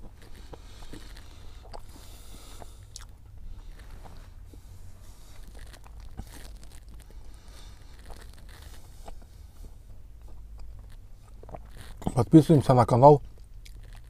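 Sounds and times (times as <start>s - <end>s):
person biting and chewing pastry: 0.0s - 12.2s, 13.2s - 14.0s
low steady hum: 0.0s - 14.0s.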